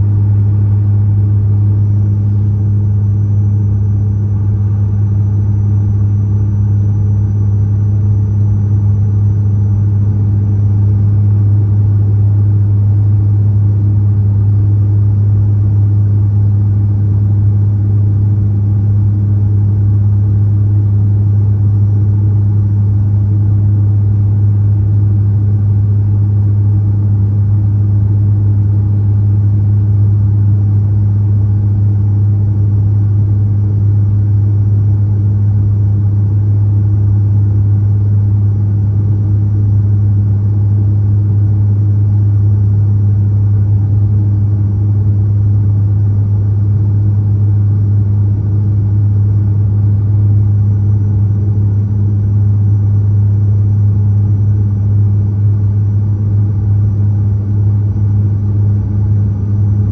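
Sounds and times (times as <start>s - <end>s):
turboprop engines droning: 0.0s - 53.1s
faint high whine: 0.0s - 54.4s.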